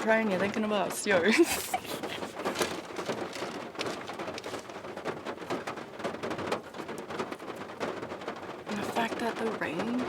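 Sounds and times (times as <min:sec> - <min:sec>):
loud rain falling: 0:00.0 - 0:10.0.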